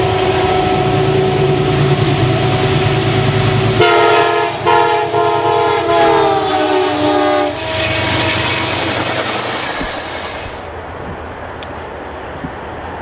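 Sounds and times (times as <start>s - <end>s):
train horn blasts: 0.0s - 10.7s
passenger train rumbling: 0.0s - 13.0s.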